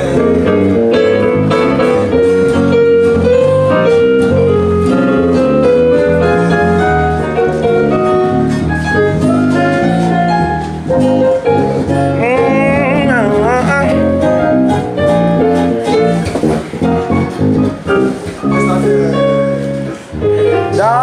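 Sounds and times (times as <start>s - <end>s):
sliding wavering melody line: 0.0s - 19.8s
acoustic guitar: 0.0s - 21.0s
electric bass line: 0.0s - 21.0s
stage keyboard: 0.0s - 21.0s.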